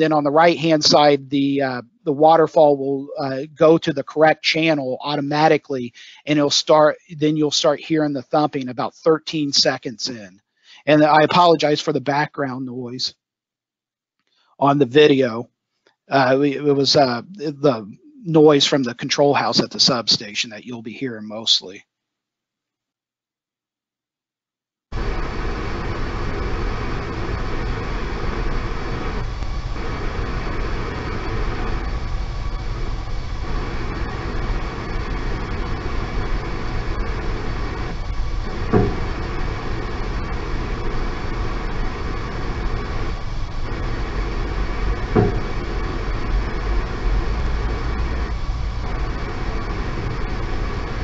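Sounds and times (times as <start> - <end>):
steady substation noise: 0.0 - 13.2, 14.6 - 15.5, 16.1 - 21.8, 24.9 - 51.0.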